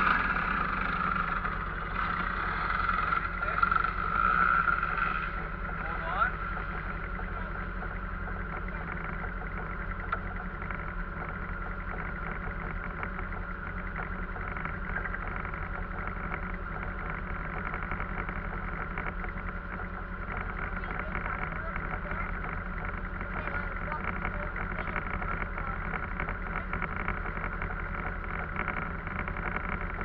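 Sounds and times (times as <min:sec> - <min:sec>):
vehicle engine running steadily: 0:00.0 - 0:30.0.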